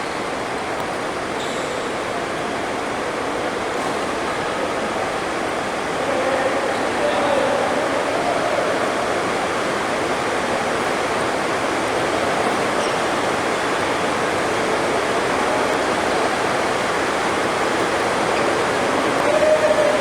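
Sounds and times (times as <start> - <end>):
heavy rain drumming on a roof: 1.9 - 20.0.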